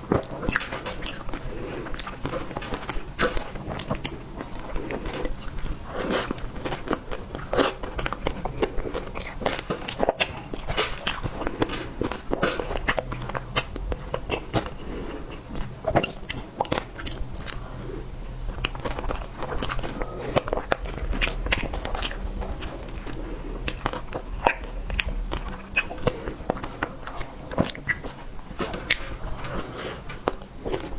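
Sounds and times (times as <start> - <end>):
faint low hum: 0.1 - 30.9.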